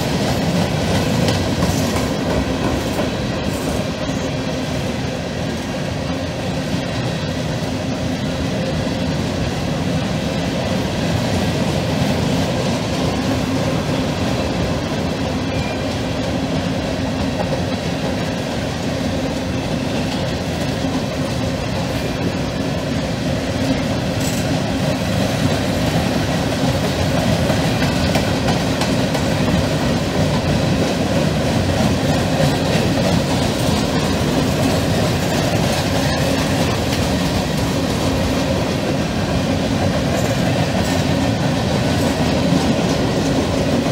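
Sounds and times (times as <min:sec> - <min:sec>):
steel wheels rolling on rails: 0:00.0 - 0:43.9.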